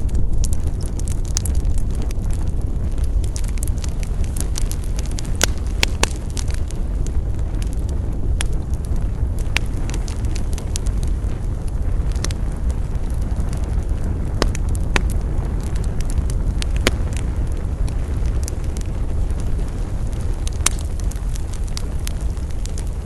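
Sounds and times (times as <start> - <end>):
campfire crackling and popping: 0.0 - 23.0
low rumble of campfire: 0.0 - 23.0.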